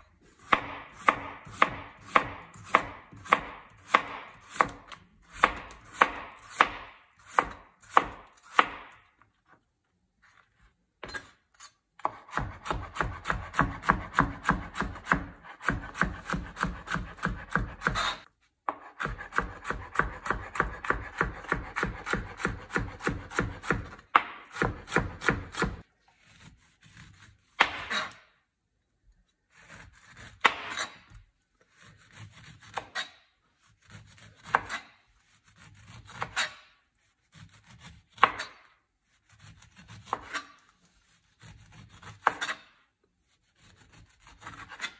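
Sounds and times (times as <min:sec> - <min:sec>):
knife chopping on cutting board: 0:00.4 - 0:09.0, 0:12.0 - 0:28.2, 0:29.5 - 0:33.2, 0:33.8 - 0:36.7, 0:37.3 - 0:38.6, 0:39.3 - 0:40.5, 0:41.4 - 0:42.7, 0:43.6 - 0:44.9.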